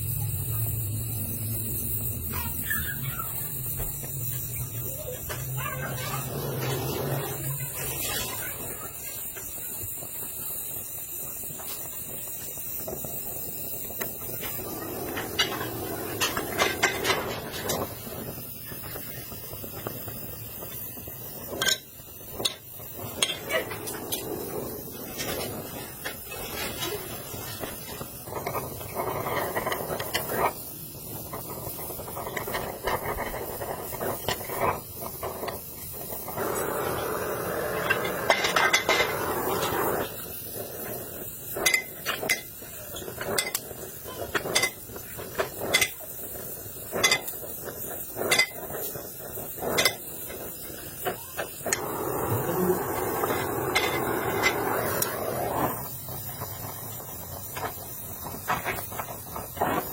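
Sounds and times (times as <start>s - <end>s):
steady hissing noise: 0.0s - 59.9s.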